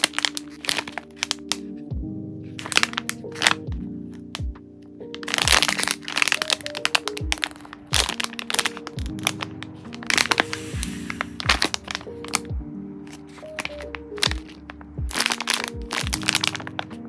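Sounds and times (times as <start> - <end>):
plastic bags crinkling: 0.0 - 1.7, 2.6 - 4.4, 5.1 - 12.5, 13.1 - 17.0
soft background music with kick drum: 0.0 - 17.0.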